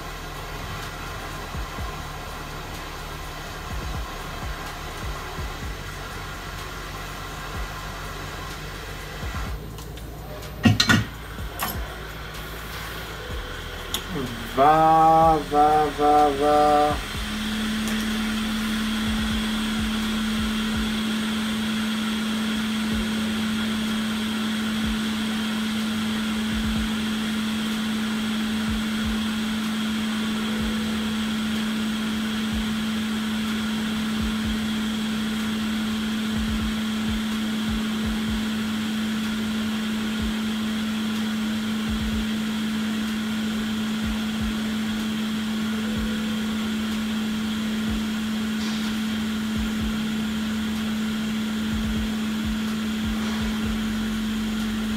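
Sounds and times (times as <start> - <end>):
constant low hum: 0.0 - 54.9
small electric fan whirring: 0.0 - 54.9.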